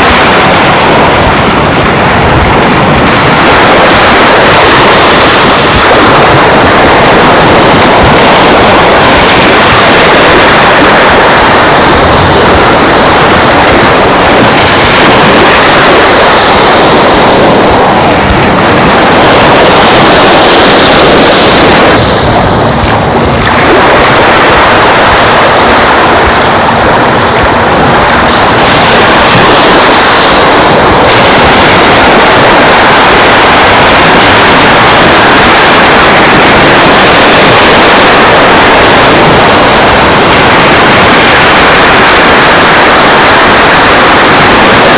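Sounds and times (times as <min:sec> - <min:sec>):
surf rushing: 0:00.0 - 0:44.9
wind: 0:00.0 - 0:44.9.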